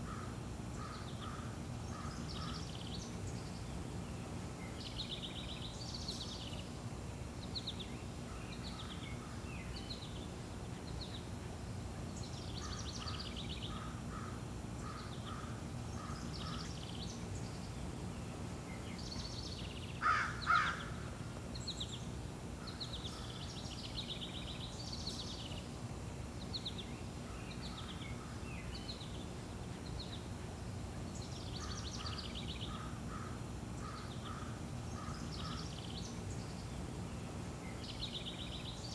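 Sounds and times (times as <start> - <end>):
birds chirping and trilling: 0.0 - 38.9
loud low bird calls: 0.0 - 38.9
low background hum: 0.0 - 38.9.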